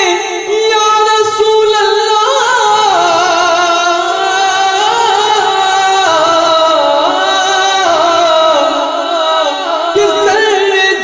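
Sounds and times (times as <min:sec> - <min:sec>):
man singing through loudspeakers: 0:00.0 - 0:11.0.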